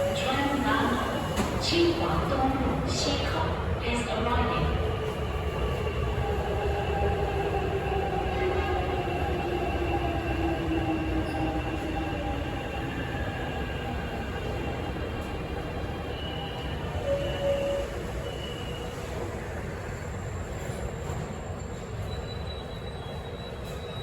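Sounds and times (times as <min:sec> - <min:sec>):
train rumble and motor whine: 0:00.0 - 0:24.0.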